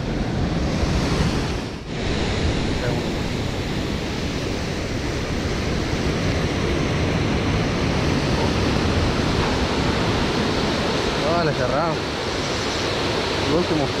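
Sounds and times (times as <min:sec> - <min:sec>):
water rushing through spillway: 0:00.1 - 0:14.0.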